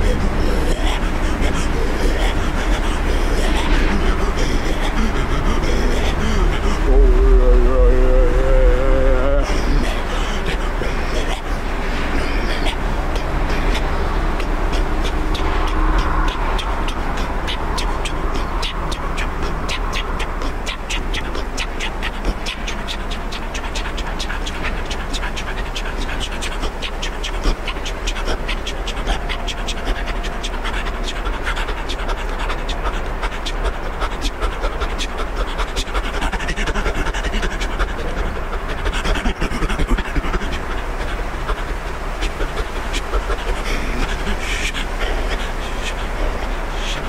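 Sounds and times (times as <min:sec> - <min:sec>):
man making rhythmic mouth noises: 0:00.0 - 0:47.0.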